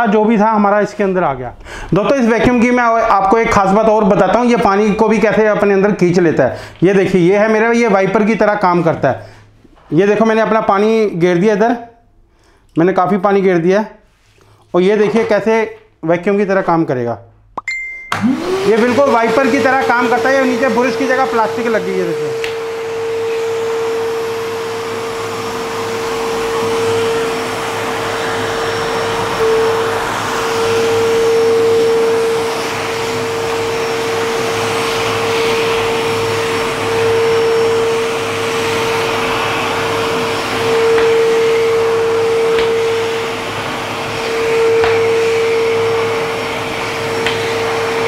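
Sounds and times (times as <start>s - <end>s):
wet vacuum whining: 0.0s - 9.3s, 18.1s - 48.0s.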